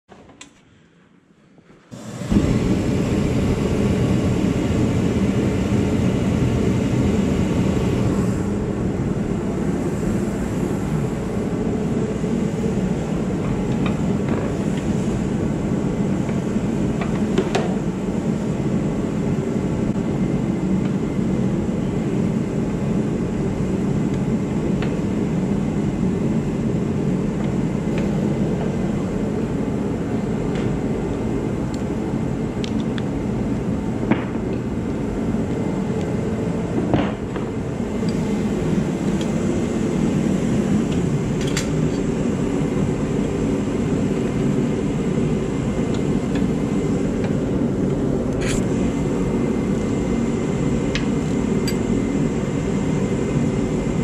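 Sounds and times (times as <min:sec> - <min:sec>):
heater fan rushing: 0:00.3 - 0:54.0.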